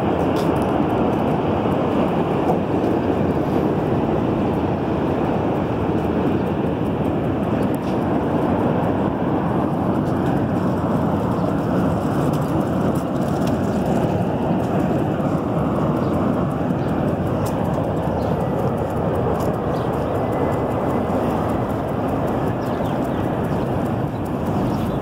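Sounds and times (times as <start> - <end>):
city traffic din: 0.0 - 25.0.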